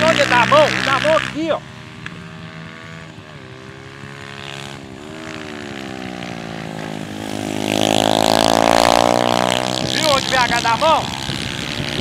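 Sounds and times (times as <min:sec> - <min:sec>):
pit bike engine accelerating: 0:00.0 - 0:12.0.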